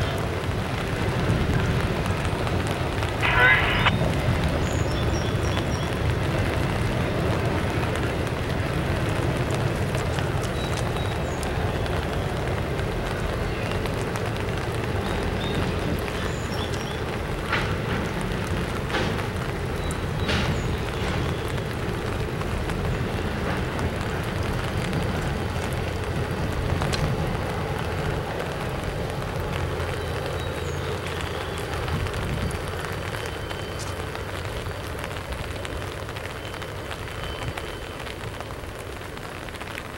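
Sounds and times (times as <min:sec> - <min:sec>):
freight train rumbling past: 0:00.0 - 0:36.2.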